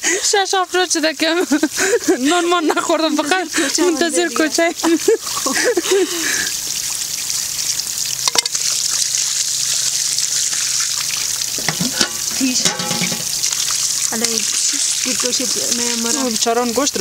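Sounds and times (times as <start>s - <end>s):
water pouring onto stone: 3.4s - 17.0s.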